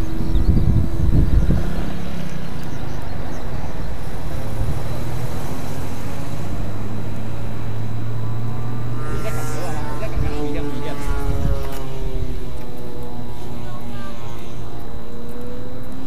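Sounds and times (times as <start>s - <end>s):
motor scooter passing: 0.0s - 16.0s
road traffic: 0.0s - 16.0s.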